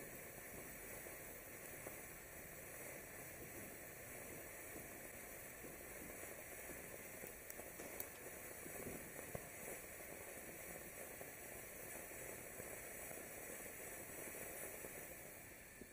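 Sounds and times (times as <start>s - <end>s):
firework crackles: 0.0s - 15.9s
firework sparks hissing: 0.0s - 15.9s.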